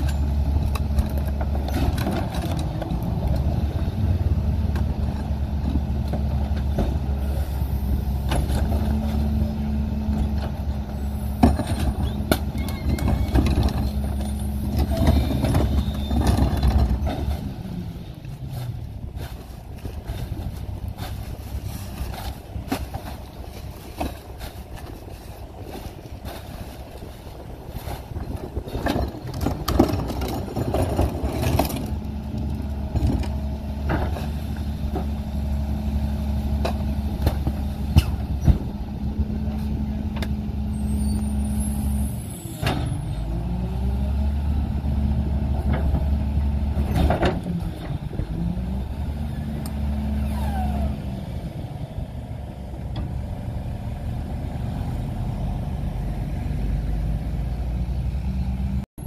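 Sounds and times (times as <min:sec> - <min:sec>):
diesel engine at raised speed: 0:00.0 - 0:59.0.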